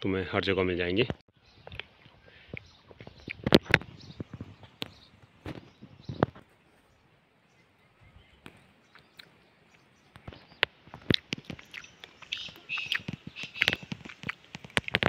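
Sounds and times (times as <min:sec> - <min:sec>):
dry grass crackling underfoot: 0:01.5 - 0:15.0.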